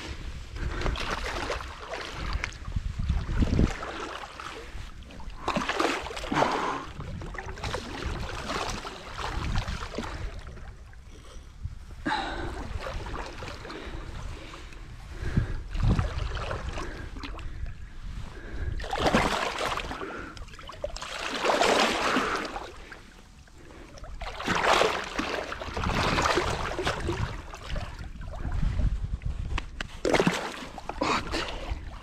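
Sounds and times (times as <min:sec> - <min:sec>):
fish thrashing and splashing water: 0:00.7 - 0:11.0, 0:12.5 - 0:14.6, 0:15.7 - 0:17.6, 0:18.8 - 0:28.7, 0:30.0 - 0:32.0.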